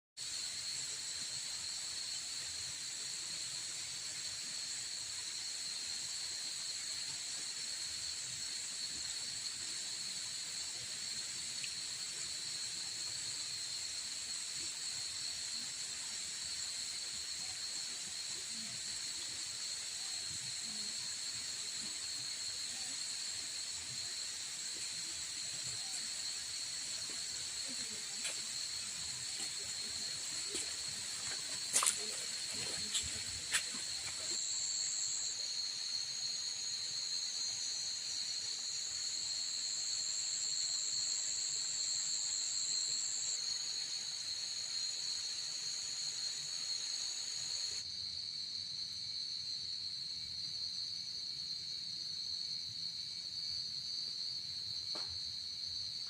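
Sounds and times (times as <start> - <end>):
insects droning: 0.2 - 56.0.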